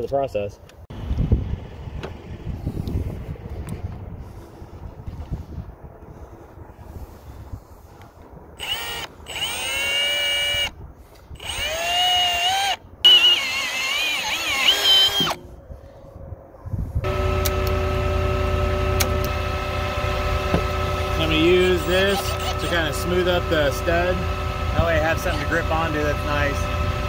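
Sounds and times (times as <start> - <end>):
engine hum with low rumble: 0.7 - 27.0.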